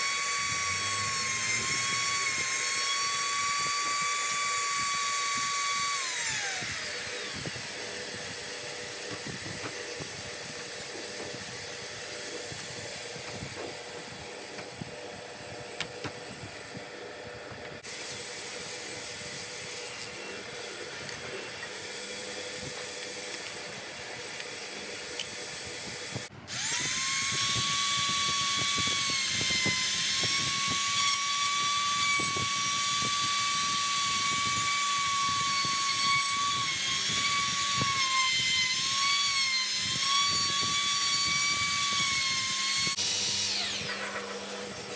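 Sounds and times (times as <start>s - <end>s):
trim router whining: 0.0s - 44.9s.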